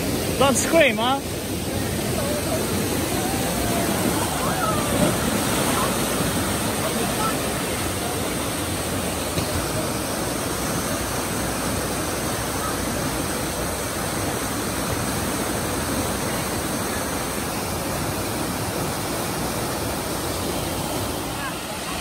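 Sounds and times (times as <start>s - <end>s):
whitewater rushing: 0.0s - 22.0s.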